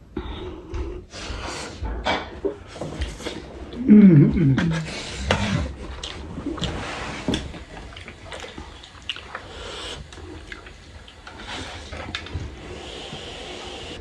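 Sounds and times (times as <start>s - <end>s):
wet slurping and chewing: 1.0s - 14.0s.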